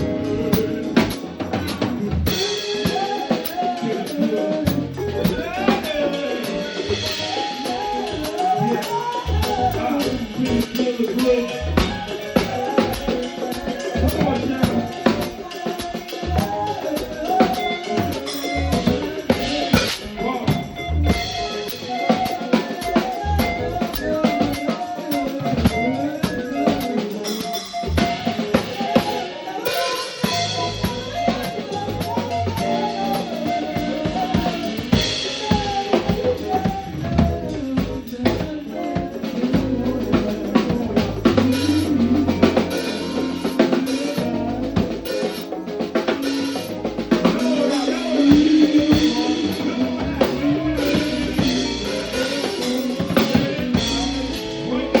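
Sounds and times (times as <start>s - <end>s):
drum kit hits: 0.0s - 55.0s
live band playing: 0.0s - 55.0s.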